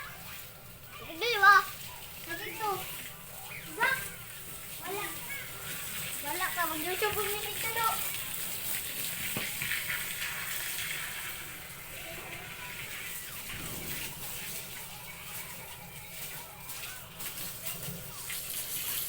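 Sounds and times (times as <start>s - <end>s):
faint voices: 0.0s - 19.0s
water running with hiss: 0.0s - 19.0s.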